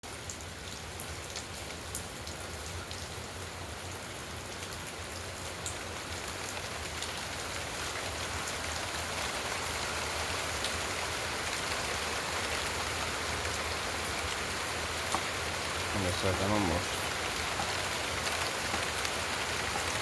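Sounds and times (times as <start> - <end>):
raindrops ticking on a surface: 0.0 - 20.0
steady rain: 0.0 - 20.0.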